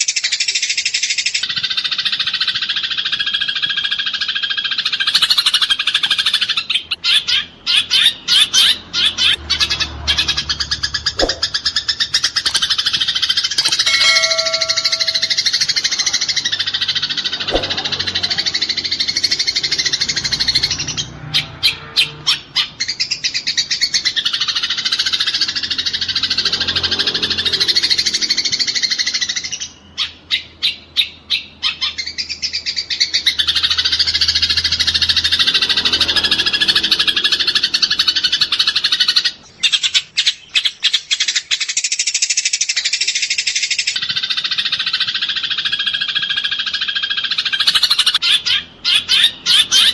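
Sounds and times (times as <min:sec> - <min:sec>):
sparrows chattering: 0:00.0 - 0:49.9.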